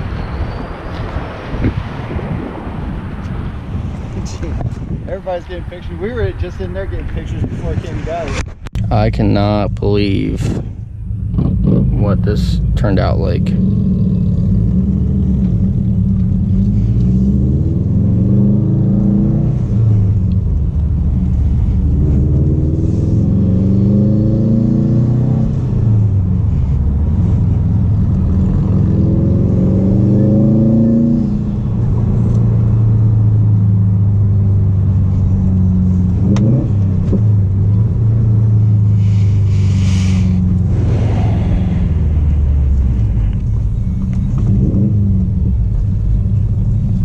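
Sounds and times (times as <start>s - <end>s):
car engine accelerating through gears: 9.2s - 47.0s.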